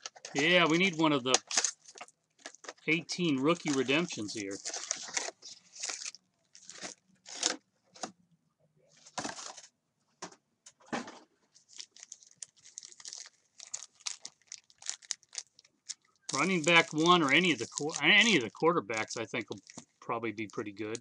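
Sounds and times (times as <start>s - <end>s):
foil wrappers crinkling and tearing: 0.0s - 7.6s, 11.6s - 21.0s.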